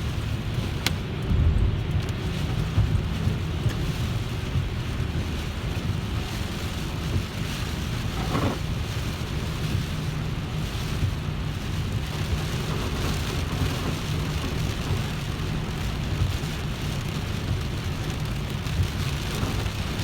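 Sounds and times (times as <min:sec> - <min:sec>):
rain hissing: 0:00.0 - 0:20.0
road rumble: 0:00.0 - 0:20.0.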